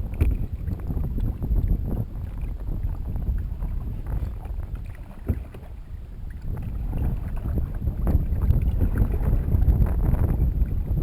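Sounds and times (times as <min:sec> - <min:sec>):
canoe paddling in water: 0:00.0 - 0:11.0
wind rumbling on microphone: 0:00.0 - 0:11.0.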